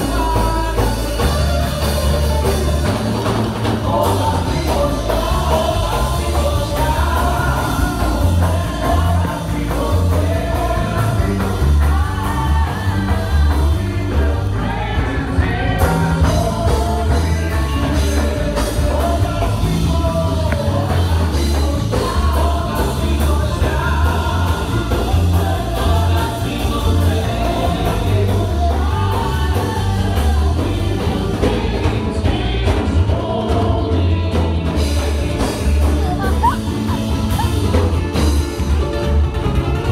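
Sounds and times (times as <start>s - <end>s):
people singing: 0.0s - 39.1s
heavy pulsing bass: 0.0s - 39.9s
worship music through speakers: 0.0s - 39.9s.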